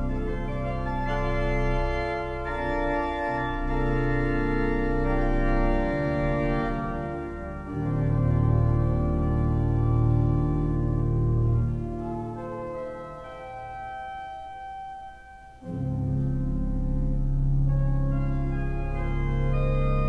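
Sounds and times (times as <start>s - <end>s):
deep organ pedal bass: 0.0s - 14.9s, 15.6s - 20.0s
pipe organ playing chords: 0.0s - 20.0s.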